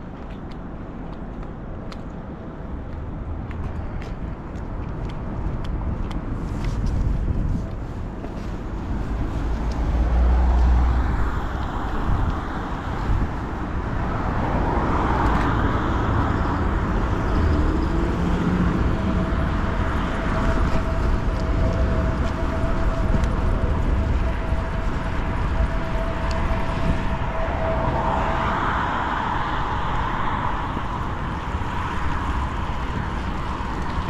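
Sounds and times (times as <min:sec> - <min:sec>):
road traffic: 0:00.0 - 0:34.0
wind rumble on microphone: 0:00.0 - 0:34.0.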